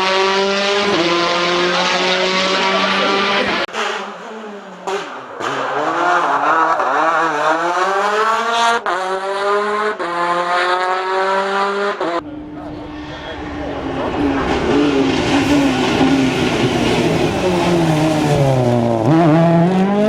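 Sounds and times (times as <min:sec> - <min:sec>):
rally car engines revving high: 0:00.0 - 0:20.0.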